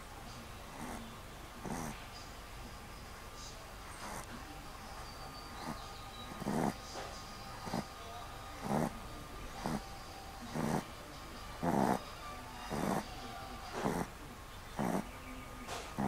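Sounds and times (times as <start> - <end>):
dog snoring: 0.7 - 2.1, 3.9 - 16.0.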